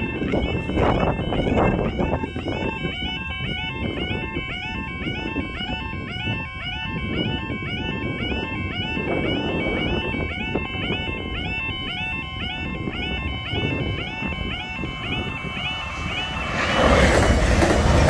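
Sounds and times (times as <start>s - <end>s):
level crossing alarms: 0.0s - 18.0s.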